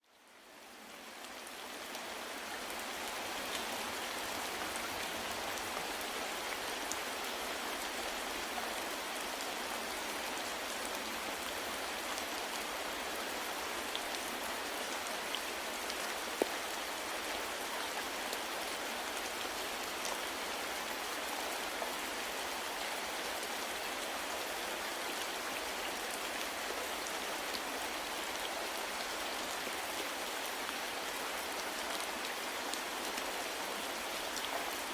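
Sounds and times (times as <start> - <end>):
rain pattering: 0.1 - 34.9.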